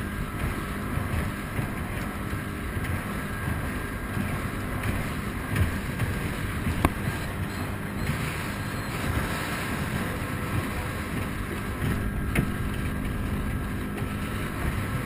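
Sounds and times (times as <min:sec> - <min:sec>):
speedboat engine drone: 0:00.0 - 0:15.0
water rushing past hull: 0:00.0 - 0:15.0
wind buffeting microphone: 0:00.0 - 0:15.0.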